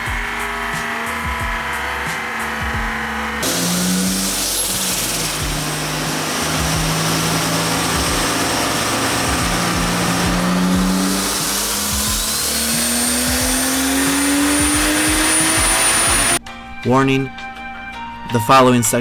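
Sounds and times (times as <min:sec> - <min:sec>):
car engine: 0:00.0 - 0:16.4
road noise: 0:00.0 - 0:16.4.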